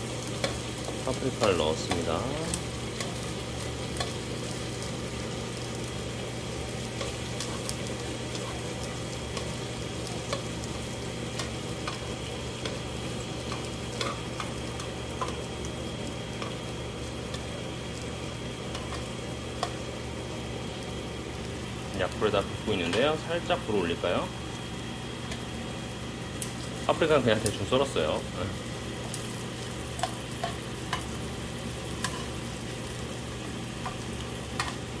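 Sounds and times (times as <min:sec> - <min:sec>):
food sizzling in oil: 0:00.0 - 0:35.0
tongs turning food: 0:00.1 - 0:24.0, 0:29.0 - 0:35.0.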